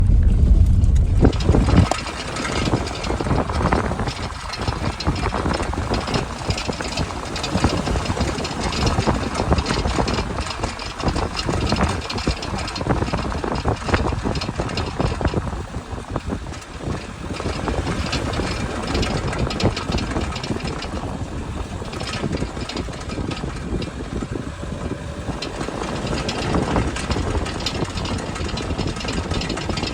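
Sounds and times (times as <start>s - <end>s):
car rumble: 0.0s - 29.9s
suspension knocking and rattling: 0.0s - 29.9s.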